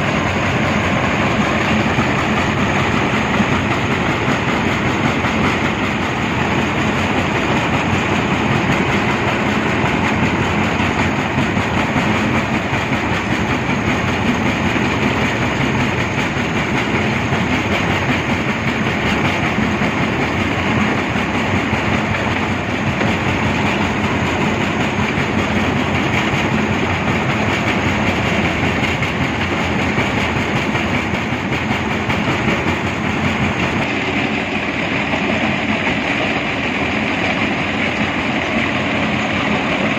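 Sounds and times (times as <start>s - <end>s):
heavy machinery rattling: 0.0s - 39.9s.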